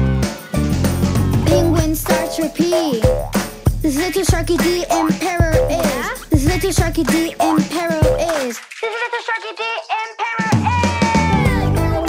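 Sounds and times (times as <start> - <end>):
children's song music: 0.0 - 12.0.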